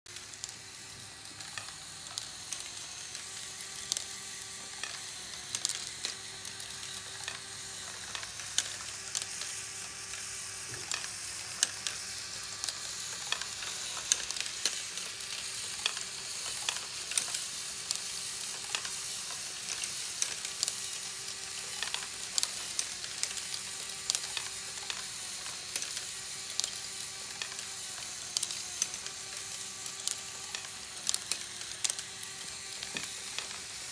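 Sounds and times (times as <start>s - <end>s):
small electric motor humming: 0.1s - 33.9s.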